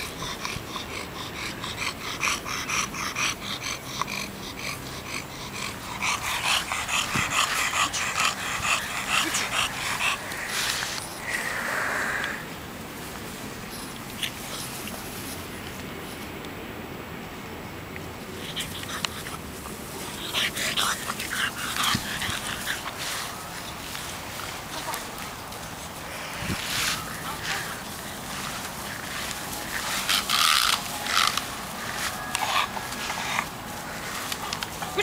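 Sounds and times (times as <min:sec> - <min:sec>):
dog panting rapidly: 0:00.0 - 0:11.6, 0:18.4 - 0:35.0
steady hiss: 0:04.2 - 0:35.0.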